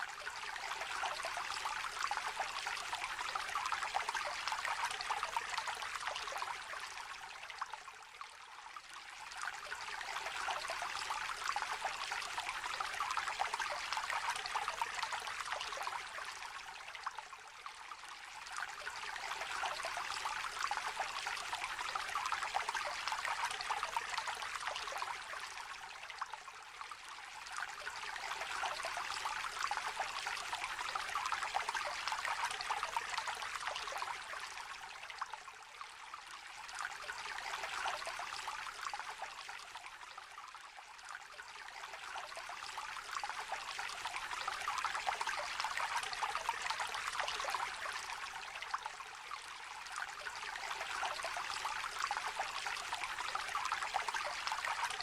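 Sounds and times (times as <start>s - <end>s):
river trickling: 0.0s - 55.0s.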